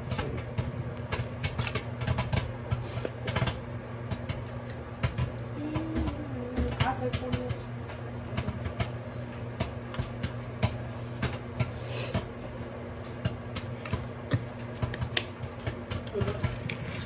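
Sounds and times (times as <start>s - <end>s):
microwave oven humming: 0.0s - 17.0s
popcorn popping: 0.0s - 17.0s.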